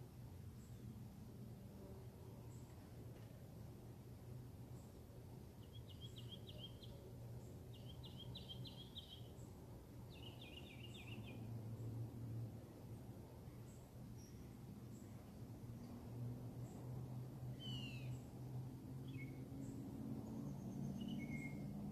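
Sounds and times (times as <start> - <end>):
faint songbird singing: 0.0 - 3.4, 4.4 - 21.9.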